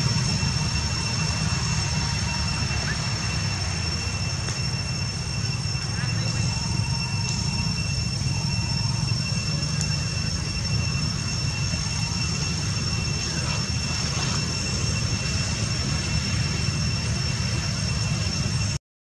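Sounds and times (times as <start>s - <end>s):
high steady whine: 0.0s - 18.8s
outdoor background rumble: 0.0s - 18.8s.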